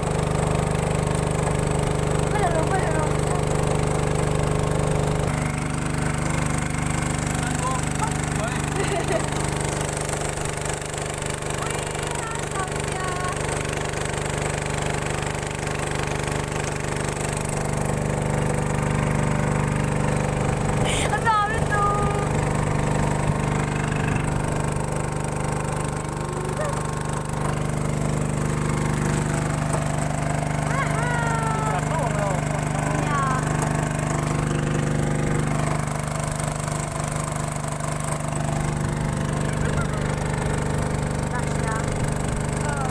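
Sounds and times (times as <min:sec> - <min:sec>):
small boat engine running: 0:00.0 - 0:42.9
water rushing: 0:00.0 - 0:42.9
wind: 0:00.0 - 0:42.9.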